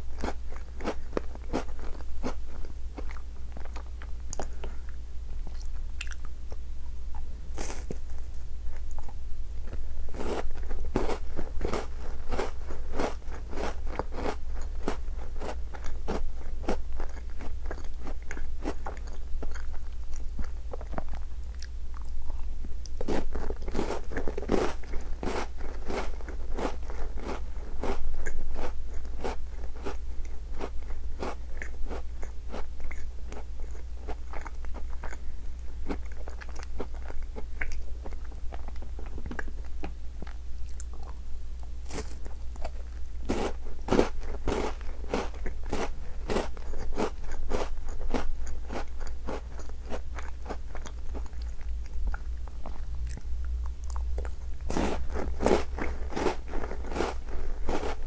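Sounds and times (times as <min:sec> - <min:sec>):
biscuit crunching chewing: 0:00.1 - 0:06.6, 0:07.2 - 0:58.0.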